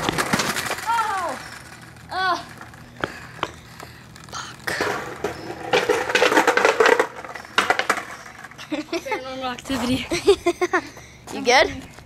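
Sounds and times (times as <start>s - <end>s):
skateboard wheels rolling on concrete: 0.0s - 10.0s.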